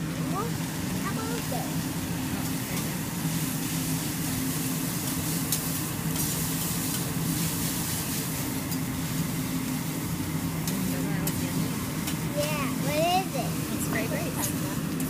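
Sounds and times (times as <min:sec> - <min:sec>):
rice sizzling on griddle: 0:00.0 - 0:15.0
steady low hum: 0:00.0 - 0:15.0.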